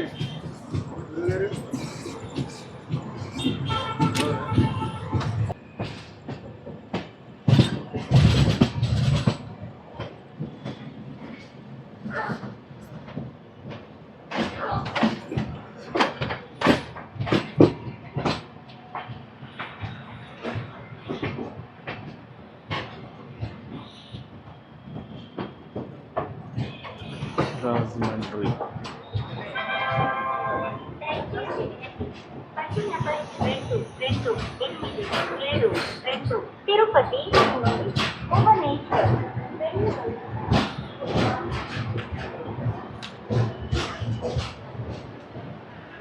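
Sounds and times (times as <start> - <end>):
train wheels clattering on rails: 0.0 - 46.0.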